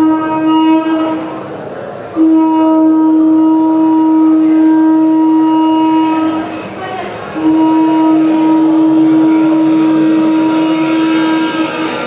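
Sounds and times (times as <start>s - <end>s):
reedy wind instrument note: 0.0s - 12.0s.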